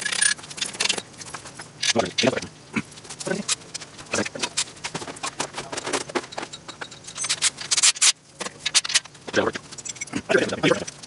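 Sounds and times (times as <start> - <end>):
metal tools clinking and scraping: 0.0 - 2.4, 3.1 - 11.0.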